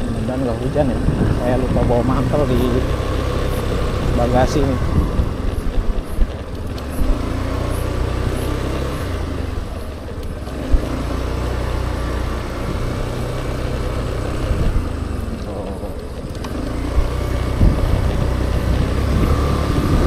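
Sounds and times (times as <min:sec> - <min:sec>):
road noise: 0:00.0 - 0:20.0
scooter engine rumble: 0:00.0 - 0:20.0.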